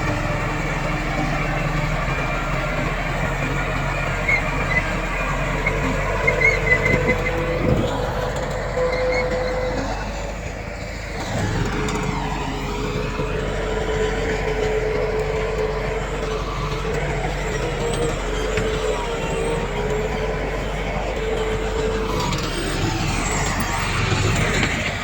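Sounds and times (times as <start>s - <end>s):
constant whine: 0.0s - 25.0s
diesel machinery engine drone: 0.0s - 25.0s.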